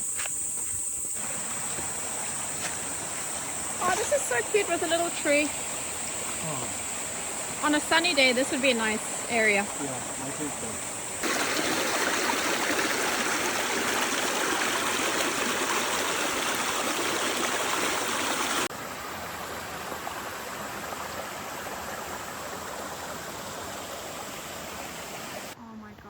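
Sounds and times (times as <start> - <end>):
water rushing over rocks: 1.2 - 25.6.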